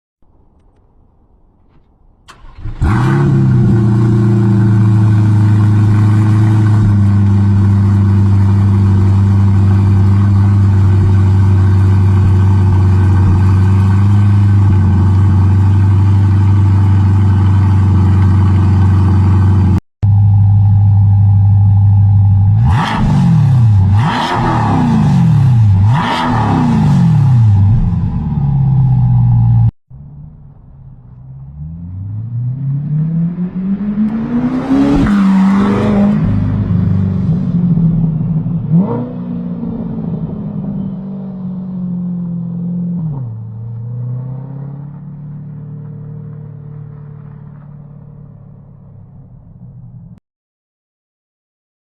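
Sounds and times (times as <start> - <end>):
sports car engine idling and revving: 2.3 - 50.2.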